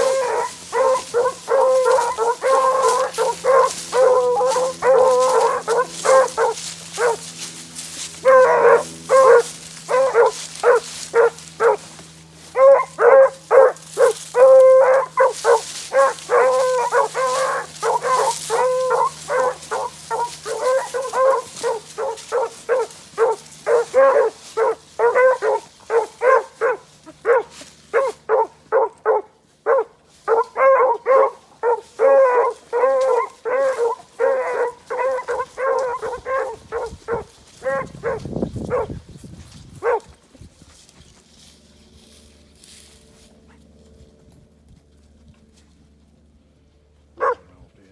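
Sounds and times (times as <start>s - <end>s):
dogs baying: 0.0s - 39.0s, 39.8s - 40.1s, 47.2s - 47.5s.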